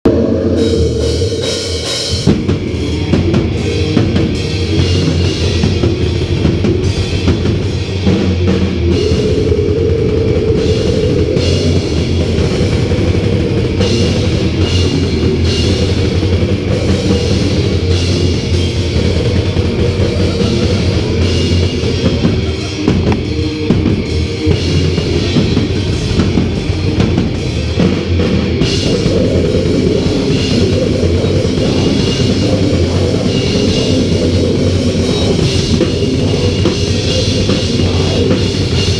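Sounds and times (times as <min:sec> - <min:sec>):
distorted electric guitars: 0:00.0 - 0:38.9
drums and cymbals: 0:00.0 - 0:38.9
heavy metal band playing: 0:00.0 - 0:38.9.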